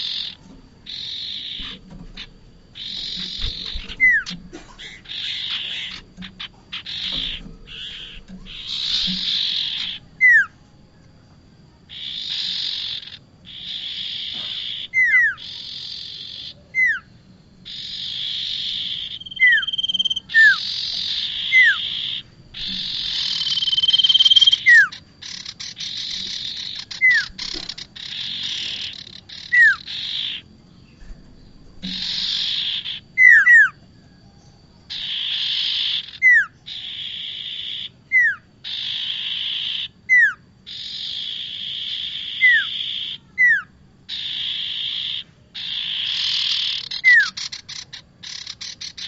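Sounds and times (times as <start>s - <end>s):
bird buzzy chattering calls: 0.0s - 10.6s, 11.8s - 33.8s, 34.9s - 49.0s.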